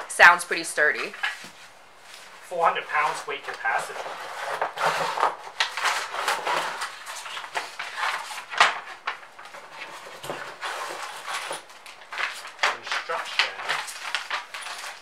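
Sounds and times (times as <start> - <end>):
cardboard and foam rustling: 0.5 - 15.0.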